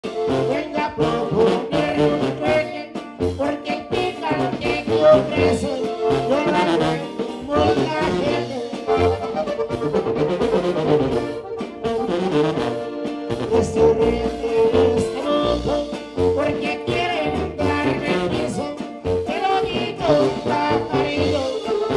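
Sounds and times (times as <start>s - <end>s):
bajo quinto strumming: 0.0s - 21.9s
button accordion: 0.0s - 21.9s
tuba bass line: 0.0s - 21.9s.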